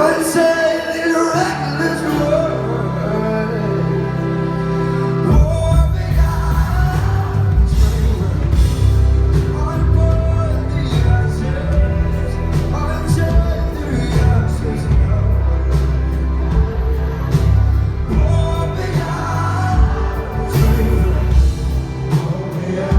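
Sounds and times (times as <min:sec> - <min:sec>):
band playing pop-rock ballad: 0:00.0 - 0:22.9
man singing: 0:00.0 - 0:22.9.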